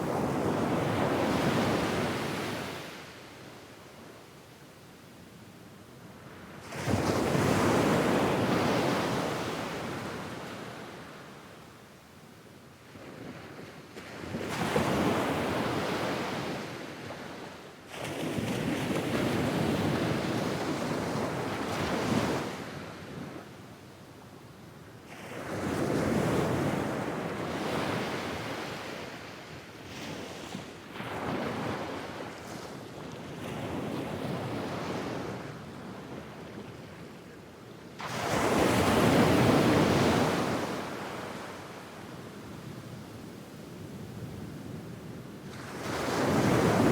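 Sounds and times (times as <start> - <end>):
waves breaking on a beach: 0.0 - 4.6, 5.5 - 11.8, 12.7 - 46.9.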